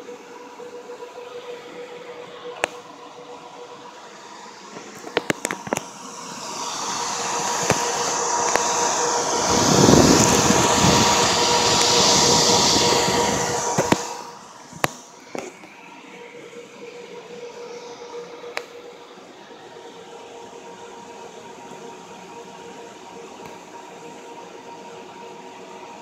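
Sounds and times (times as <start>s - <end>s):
cooling fans whirring: 0.0s - 26.0s.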